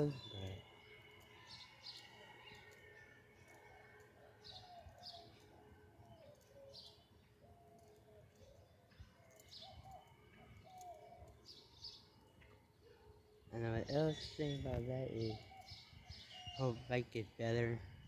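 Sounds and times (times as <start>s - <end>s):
soft low bird calls: 0.0s - 18.0s.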